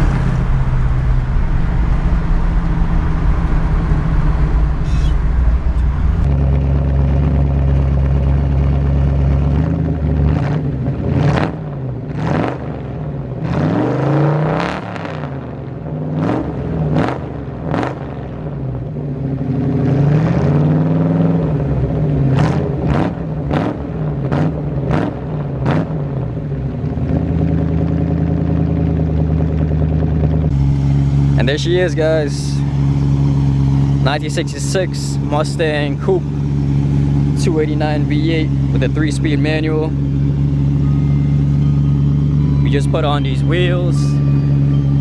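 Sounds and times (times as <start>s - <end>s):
car engine revving: 0.0s - 18.5s, 19.4s - 26.4s, 27.0s - 45.0s.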